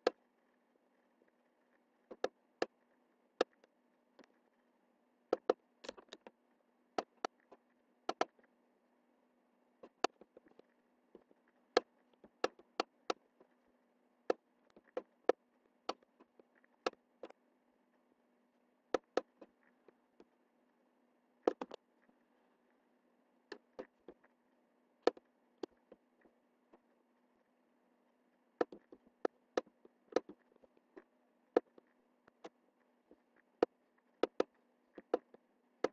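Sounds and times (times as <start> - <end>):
faint low hum: 0.0 - 35.9.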